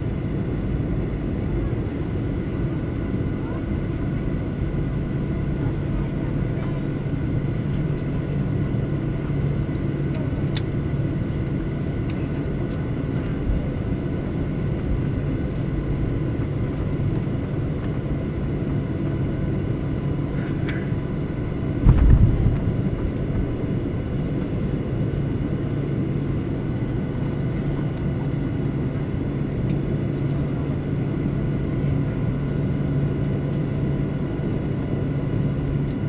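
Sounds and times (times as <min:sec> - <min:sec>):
airliner cabin hum and drone: 0:00.0 - 0:36.0.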